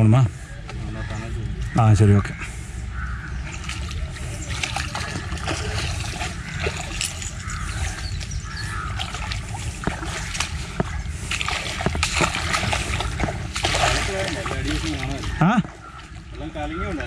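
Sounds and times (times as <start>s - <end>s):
feet splashing through water: 3.0s - 17.0s.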